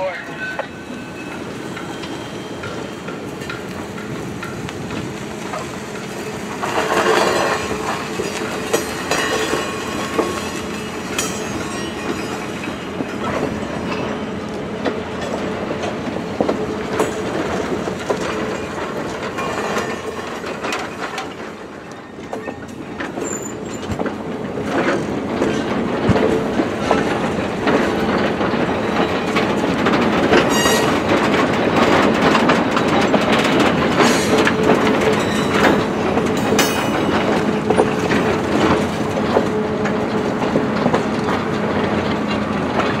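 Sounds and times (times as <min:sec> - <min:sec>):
train wheels clacking on rails: 0:00.0 - 0:43.0.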